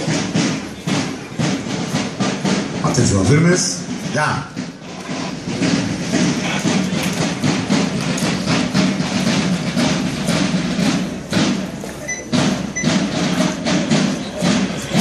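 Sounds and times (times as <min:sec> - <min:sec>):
parade drums beating march: 0:00.0 - 0:15.0.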